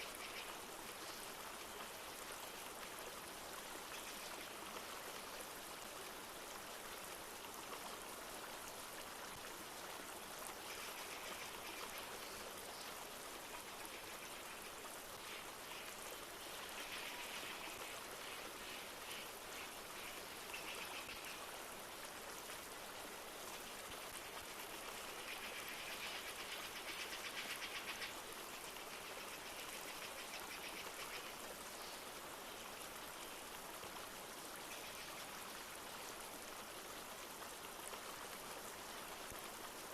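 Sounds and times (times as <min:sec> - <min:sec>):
light rain falling: 0:00.0 - 0:39.9
river flowing: 0:00.0 - 0:39.9.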